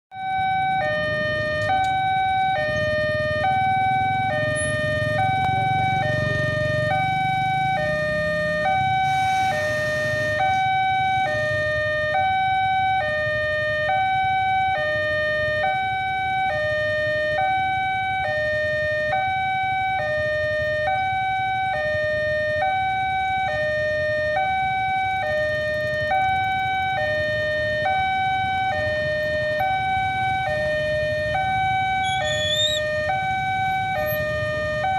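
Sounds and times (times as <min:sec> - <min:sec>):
two-tone crossing alarm: 0:00.1 - 0:34.9.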